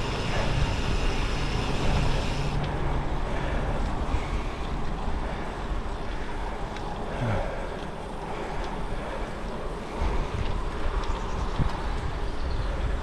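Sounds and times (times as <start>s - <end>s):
bike tyres rolling on gravel: 0.0s - 13.0s
wind rushing over microphone: 0.0s - 13.0s.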